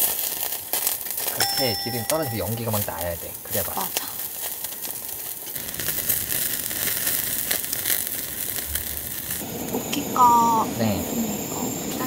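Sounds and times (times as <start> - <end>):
meat sizzling and crackling: 0.0 - 11.4.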